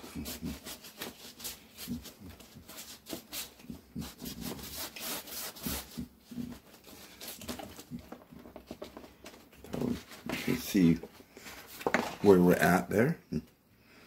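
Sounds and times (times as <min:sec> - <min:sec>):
paper towel rubbing on paper: 0:00.0 - 0:08.9, 0:09.7 - 0:12.6.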